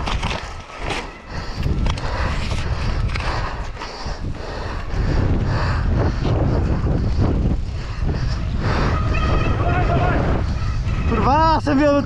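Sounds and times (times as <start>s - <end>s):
mountain bike rattling: 0.0s - 12.0s
wind rumbling on microphone: 0.0s - 12.0s.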